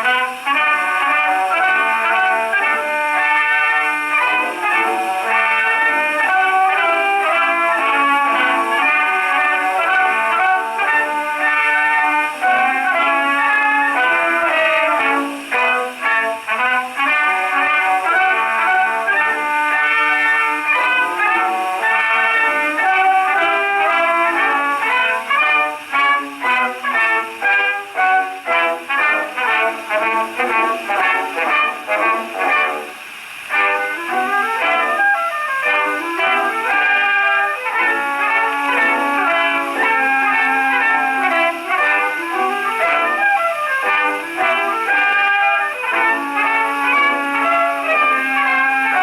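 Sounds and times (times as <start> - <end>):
brass band on gramophone: 0.0 - 49.0.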